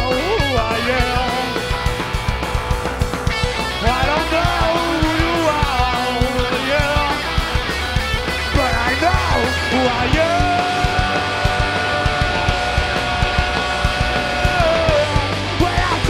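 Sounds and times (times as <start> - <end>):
electric guitar bending notes: 0.0 - 16.0
heavy rock band playing: 0.0 - 16.0.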